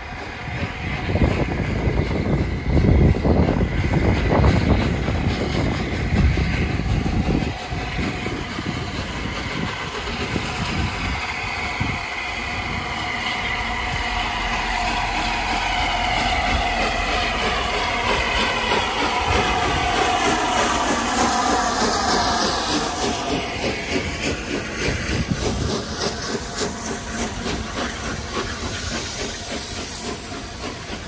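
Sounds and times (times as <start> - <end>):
train running along track: 0.0 - 31.0.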